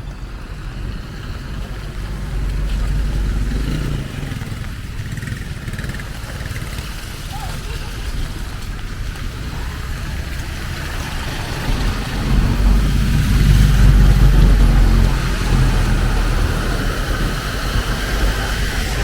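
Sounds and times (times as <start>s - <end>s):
street noise: 0.0s - 19.0s
vehicle engine rumbling: 0.0s - 19.0s.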